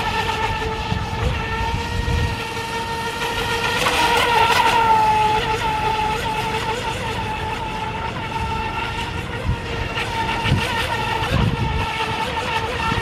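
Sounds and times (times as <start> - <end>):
boat motor whining: 0.0 - 13.0.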